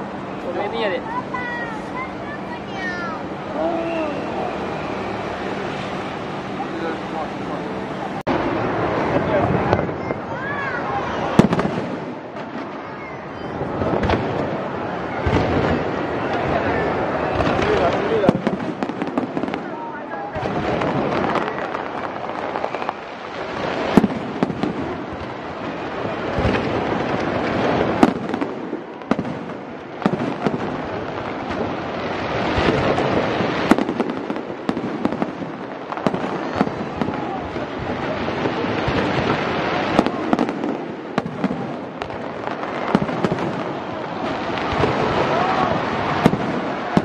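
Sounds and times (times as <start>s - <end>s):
crackle of bursting fireworks: 0.0s - 47.0s
sharp firework bangs: 8.2s - 47.0s.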